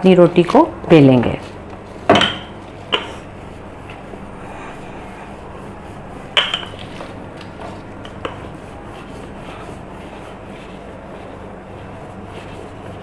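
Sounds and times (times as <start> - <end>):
rolling pin rubbing over dough: 1.2 - 13.0.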